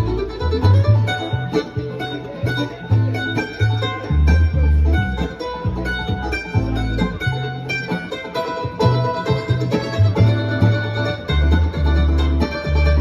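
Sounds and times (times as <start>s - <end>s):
acoustic string band playing: 0.0s - 13.0s.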